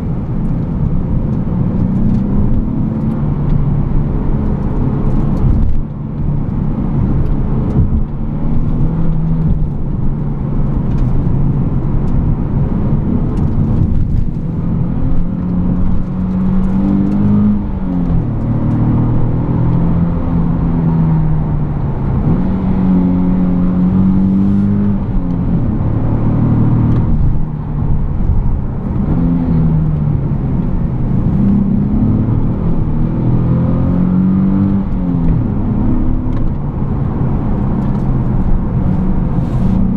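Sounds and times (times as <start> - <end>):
car engine revving inside cabin: 0.0 - 39.9.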